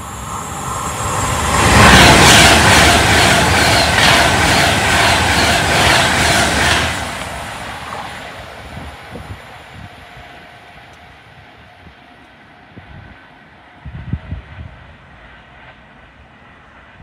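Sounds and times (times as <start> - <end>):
electric train passing at speed: 0.0 - 17.0.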